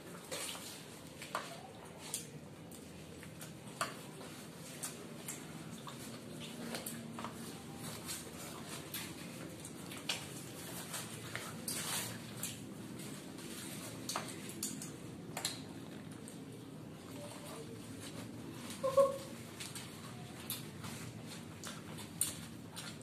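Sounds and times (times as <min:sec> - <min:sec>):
biting and chewing: 0:02.0 - 0:23.0.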